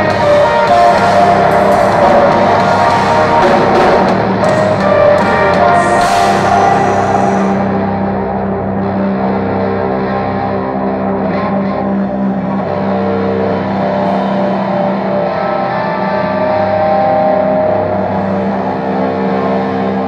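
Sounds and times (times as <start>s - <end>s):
distorted electric guitars droning: 0.0s - 20.0s.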